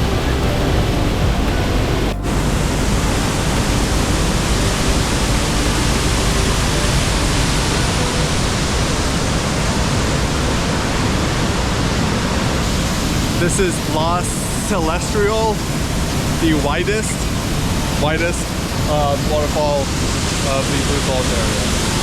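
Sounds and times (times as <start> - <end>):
waterfall pouring: 0.0 - 22.0.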